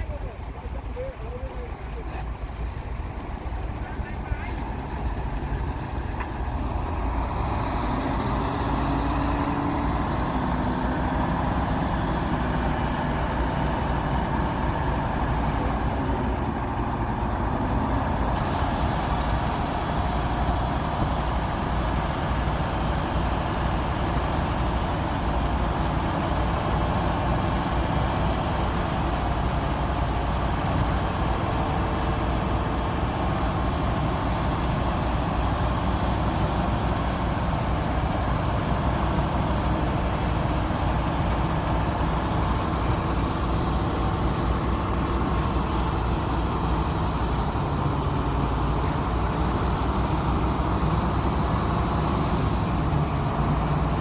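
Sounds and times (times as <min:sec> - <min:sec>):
bulldozer diesel engine rumbling: 0:00.0 - 0:54.0.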